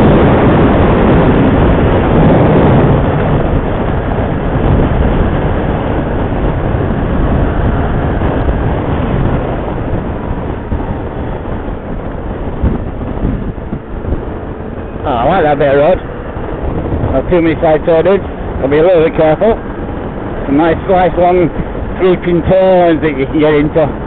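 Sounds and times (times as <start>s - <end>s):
motorcycle engine: 0.0s - 22.3s
road noise: 0.0s - 24.0s
wind rush: 0.0s - 24.0s.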